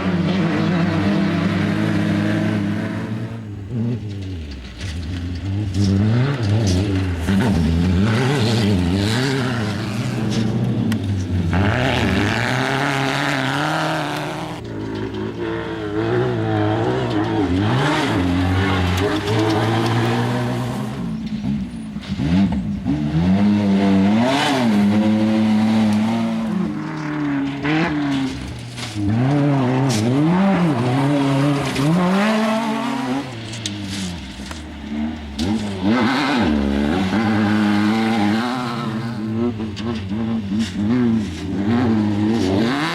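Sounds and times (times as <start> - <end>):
race car engines revving past: 0.0 - 42.9.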